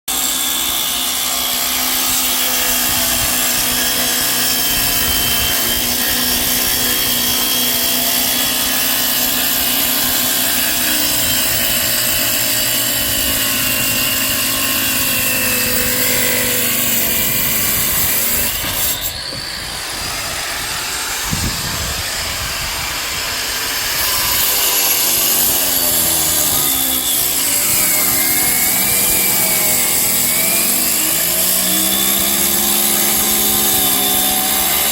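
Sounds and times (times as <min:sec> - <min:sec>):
handheld power tool running: 0:00.1 - 0:34.9.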